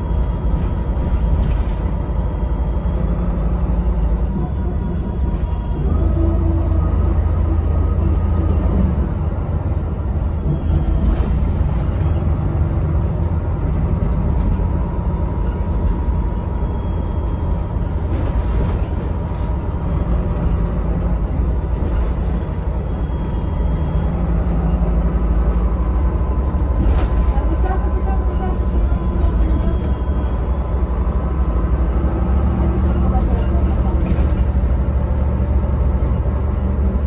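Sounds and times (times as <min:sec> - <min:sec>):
bus diesel engine rumble: 0:00.0 - 0:37.0.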